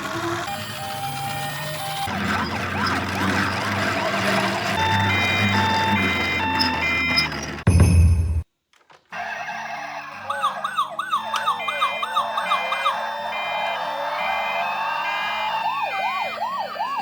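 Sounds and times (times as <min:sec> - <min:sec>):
wailing sirens: 0:00.1 - 0:07.4, 0:09.2 - 0:17.0
two-tone hi-lo siren: 0:00.5 - 0:07.3, 0:09.2 - 0:17.0.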